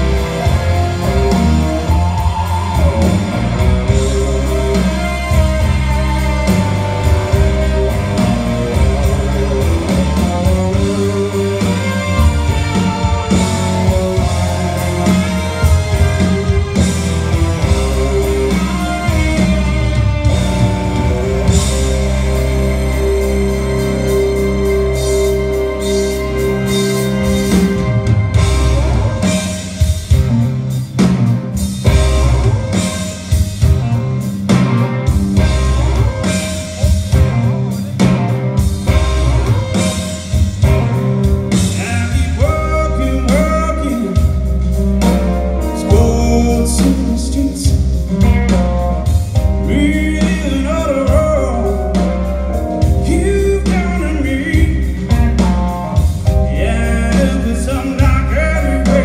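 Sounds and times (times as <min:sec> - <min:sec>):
live blues-rock band playing: 0:00.0 - 0:59.0
sliding guitar lead melody: 0:00.0 - 0:59.0.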